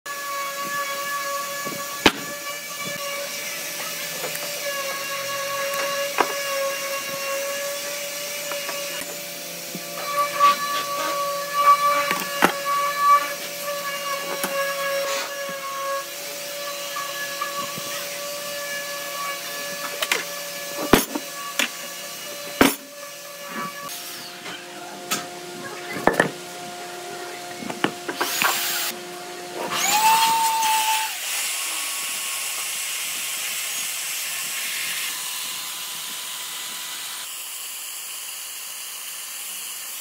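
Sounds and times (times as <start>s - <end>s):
electric motor humming: 0.1s - 40.0s.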